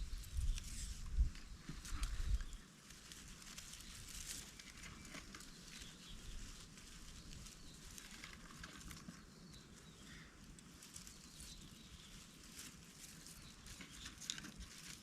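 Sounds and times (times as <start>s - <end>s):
rustling in undergrowth: 0.0s - 15.0s.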